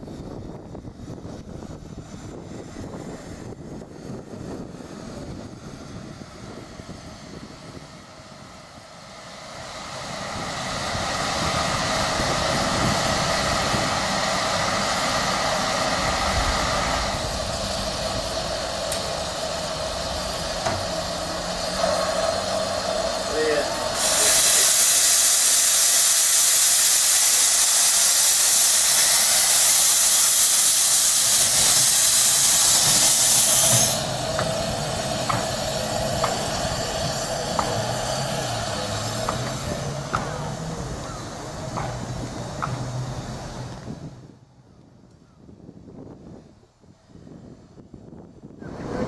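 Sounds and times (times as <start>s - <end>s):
steam locomotive hissing steam: 0.0s - 44.4s
low rumbling noise: 0.0s - 49.0s.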